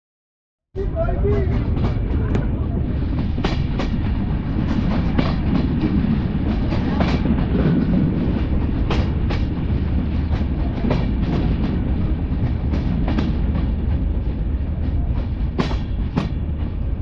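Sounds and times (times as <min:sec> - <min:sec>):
passing freight train: 0:00.8 - 0:17.0
train wheels rumbling on rail: 0:00.8 - 0:17.0.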